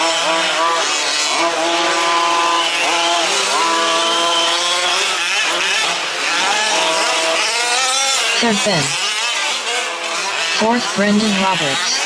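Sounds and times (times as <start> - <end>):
small engines buzzing at high revs: 0.0 - 12.0.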